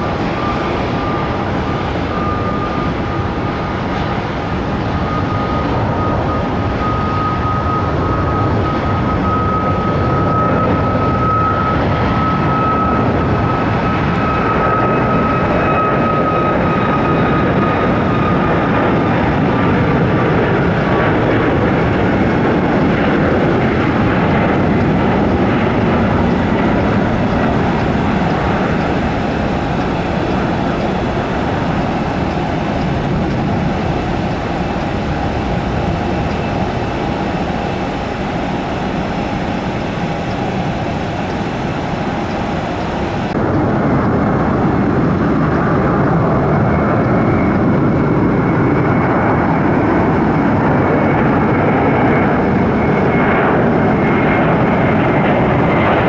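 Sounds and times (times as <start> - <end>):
jet engines at take-off power: 0.0 - 56.0.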